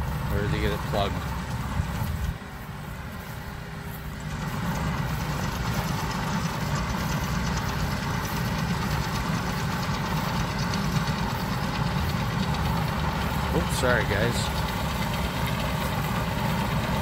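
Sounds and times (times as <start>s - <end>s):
round baler working: 0.0s - 17.0s
tractor engine under load: 0.0s - 17.0s.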